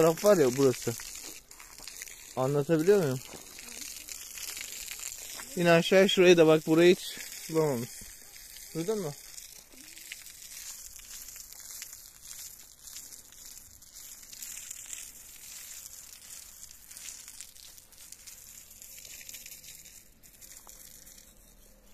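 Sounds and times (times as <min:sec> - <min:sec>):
hose water spraying on concrete: 0:00.0 - 0:21.9.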